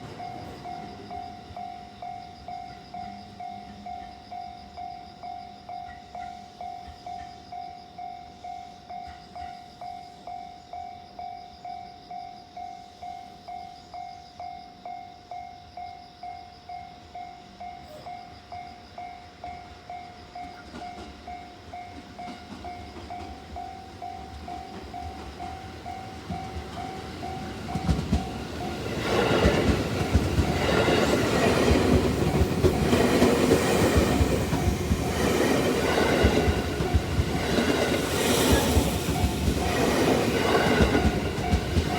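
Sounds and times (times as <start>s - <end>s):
train passing with wheel clatter: 0.0s - 15.9s, 16.6s - 41.9s.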